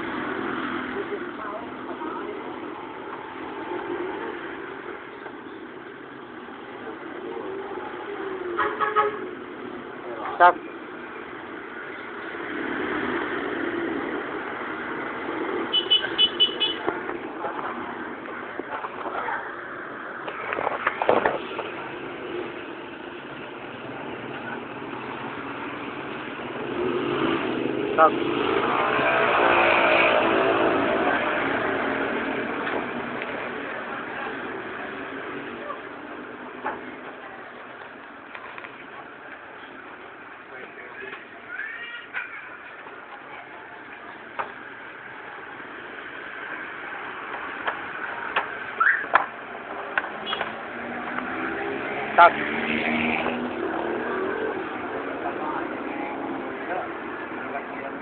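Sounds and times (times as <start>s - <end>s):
background traffic noise: 0.0s - 58.0s
vehicle engines running: 0.0s - 58.0s.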